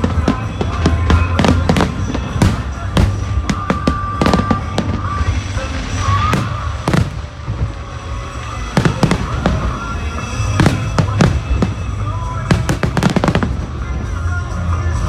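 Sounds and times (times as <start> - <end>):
fireworks bangs and crackles: 0.0 - 15.0
low rumble: 0.0 - 15.0
whistling fireworks: 0.0 - 15.0.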